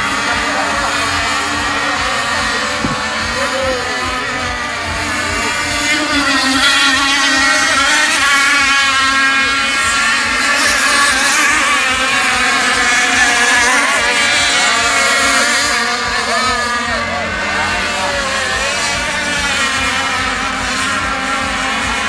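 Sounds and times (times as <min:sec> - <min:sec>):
racing boat engines whining: 0:00.0 - 0:22.0.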